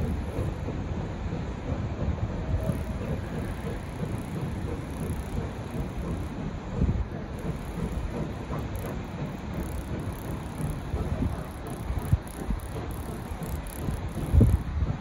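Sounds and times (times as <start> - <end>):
train rumbling over bridge: 0.0 - 15.0.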